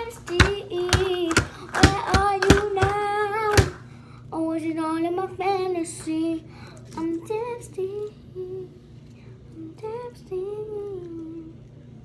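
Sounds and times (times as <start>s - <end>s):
girl singing quietly: 0.0s - 12.0s.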